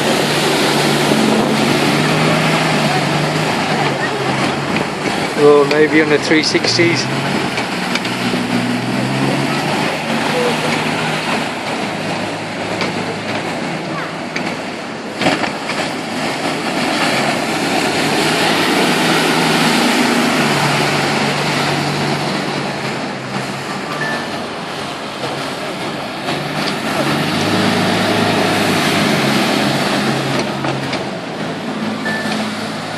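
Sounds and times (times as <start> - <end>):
boat engines running: 0.0 - 32.9
wind and water hiss: 0.0 - 32.9.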